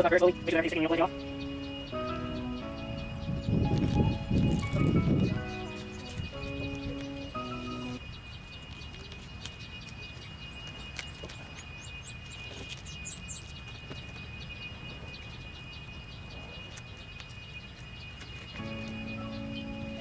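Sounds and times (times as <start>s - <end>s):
faint steady high whine: 0.0s - 20.0s
small bird chirping: 0.0s - 20.0s.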